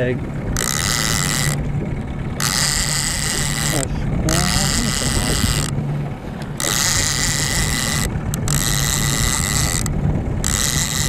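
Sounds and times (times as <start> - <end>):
fishing reel gears whirring: 0.0 - 11.0
outboard motor running low: 0.0 - 11.0.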